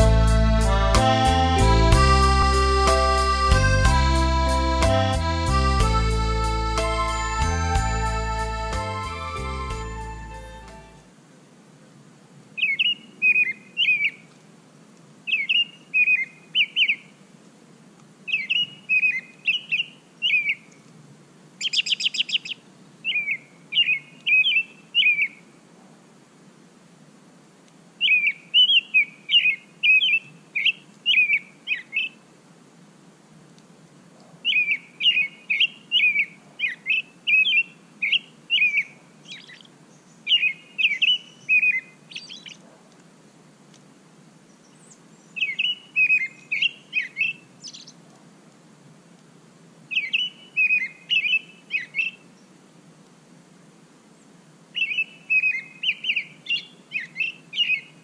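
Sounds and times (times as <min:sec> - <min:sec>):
songbird chirping: 0:00.0 - 0:11.1, 0:12.6 - 0:14.4, 0:15.2 - 0:17.4, 0:18.0 - 0:21.0, 0:21.6 - 0:25.7, 0:28.0 - 0:32.3, 0:34.2 - 0:48.6, 0:49.8 - 0:53.1, 0:54.1 - 0:58.0.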